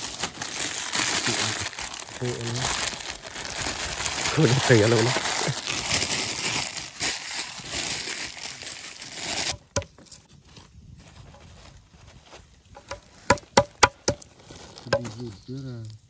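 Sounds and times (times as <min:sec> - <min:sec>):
plastic bag crinkling: 0:00.0 - 0:10.3, 0:12.8 - 0:16.0.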